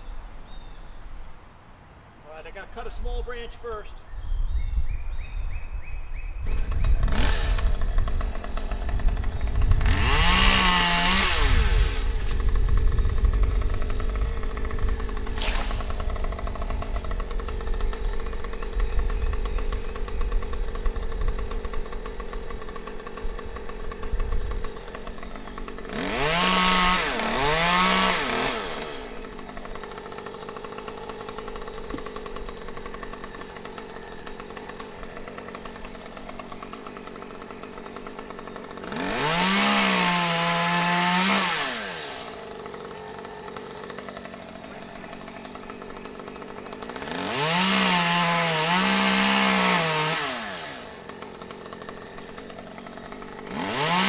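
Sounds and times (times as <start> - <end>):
chainsaw idling and revving: 2.5 - 3.9, 6.4 - 54.0.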